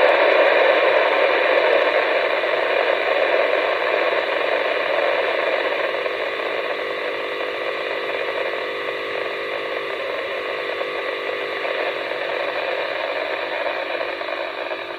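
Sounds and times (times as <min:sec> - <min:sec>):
faint steady tones: 0:00.0 - 0:14.9
steady radio hiss: 0:00.0 - 0:14.9.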